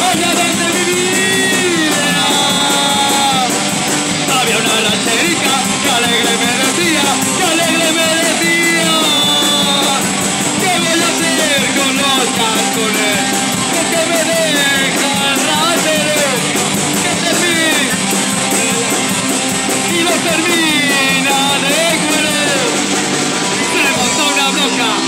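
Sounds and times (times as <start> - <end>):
drums: 0.0 - 25.0
electric guitar: 0.0 - 25.0
person singing: 0.0 - 25.0.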